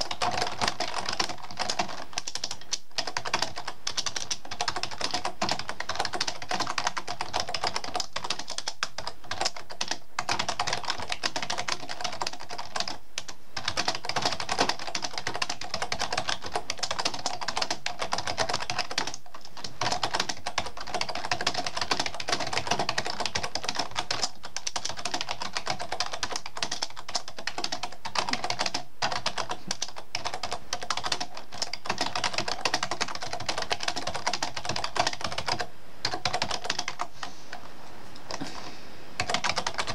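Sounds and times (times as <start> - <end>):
fast typing on computer keyboard: 0.0 - 37.4, 39.2 - 39.9.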